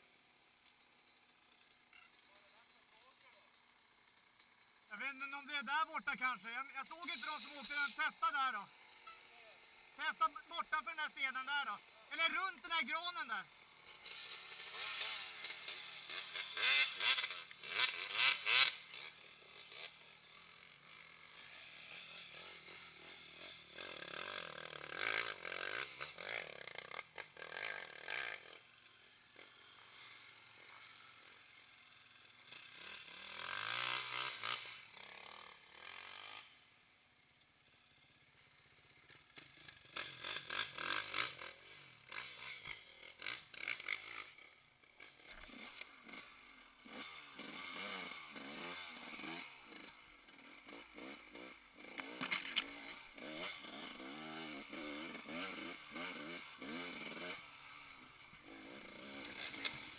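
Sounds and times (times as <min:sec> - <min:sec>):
motorcycles revving: 0:00.0 - 0:59.9.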